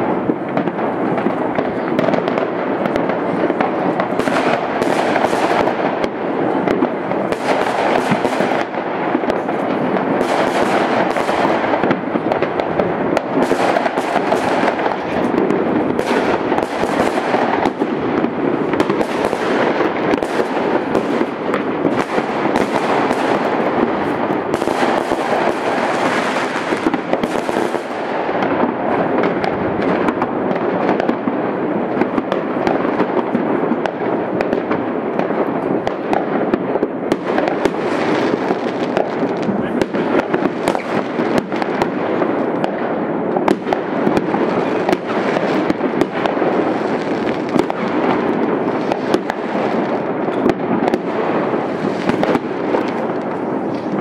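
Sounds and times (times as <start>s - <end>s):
fireworks crackling and banging: 0.0s - 54.0s.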